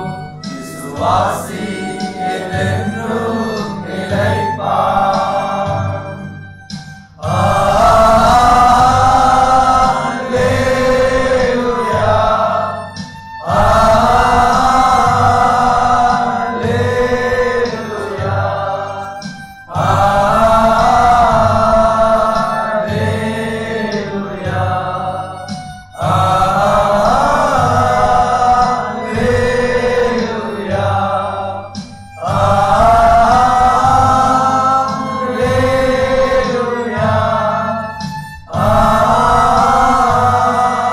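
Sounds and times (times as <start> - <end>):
group of men singing: 0.0 - 40.9.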